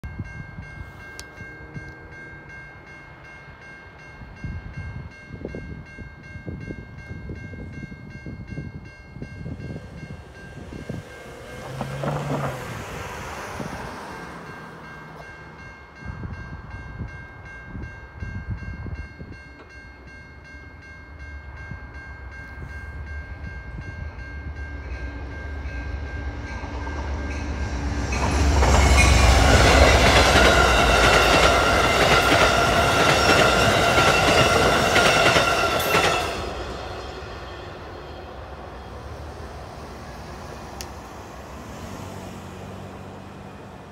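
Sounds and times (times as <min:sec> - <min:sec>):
railroad crossing bell ringing: 0:00.0 - 0:41.6
passing train rumble: 0:00.0 - 0:43.9.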